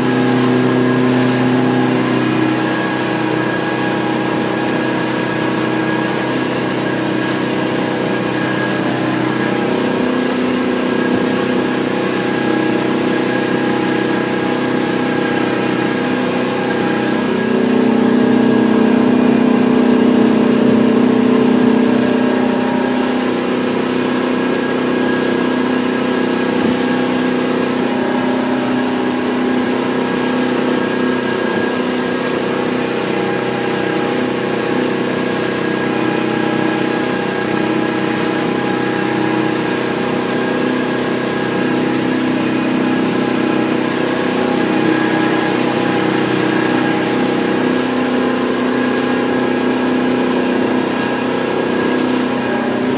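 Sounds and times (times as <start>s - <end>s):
boat engine running: 0.0s - 52.9s.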